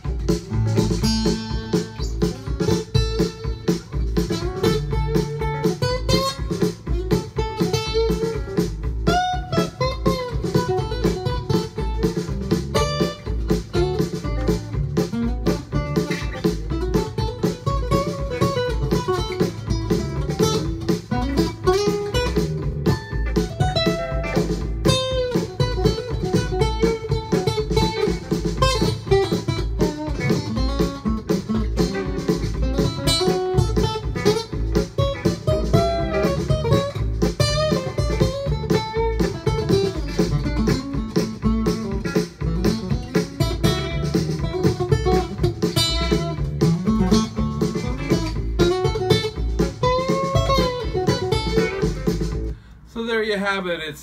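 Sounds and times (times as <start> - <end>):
electric guitar lead lines: 0.0 - 52.7
band backing track: 0.0 - 54.0.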